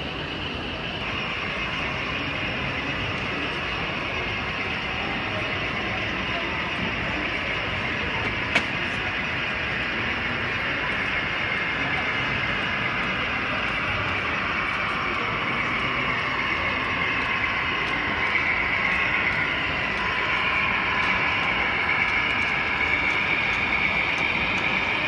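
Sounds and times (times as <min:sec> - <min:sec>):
model train whirring on rails: 0:00.0 - 0:25.0.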